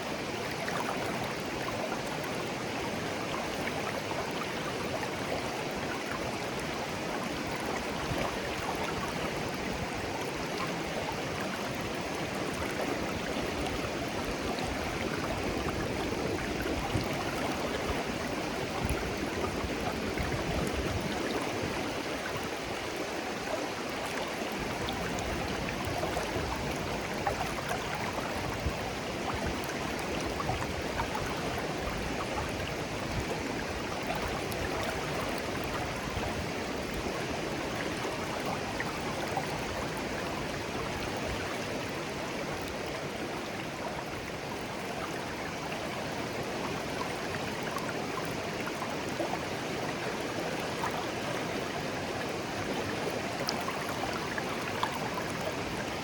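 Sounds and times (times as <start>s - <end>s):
shallow stream babbling: 0.0s - 56.0s.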